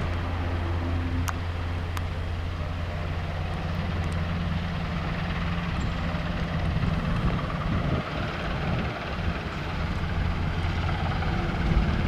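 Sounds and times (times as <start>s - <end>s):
helicopter engines and rotor running: 0.0s - 12.0s.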